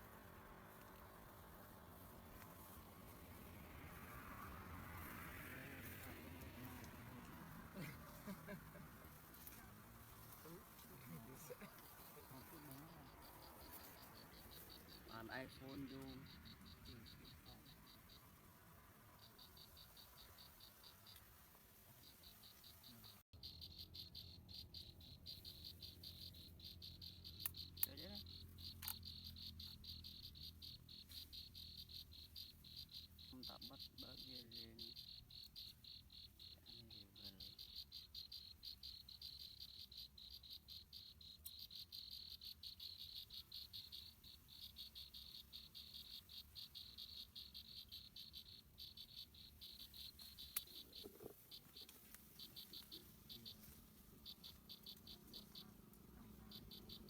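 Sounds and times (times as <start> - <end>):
insect chorus trilling: 0.0 - 57.0.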